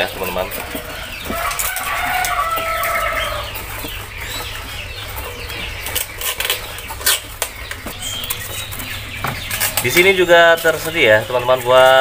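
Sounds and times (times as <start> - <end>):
birds calling: 0.0 - 12.0
birds chirping: 0.0 - 12.0.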